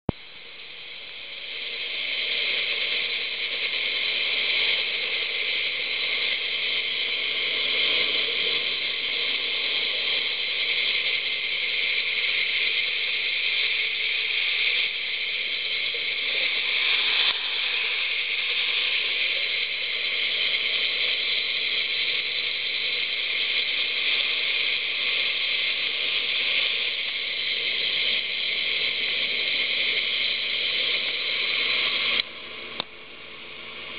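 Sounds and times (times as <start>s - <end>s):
underwater hiss: 0.1s - 33.9s.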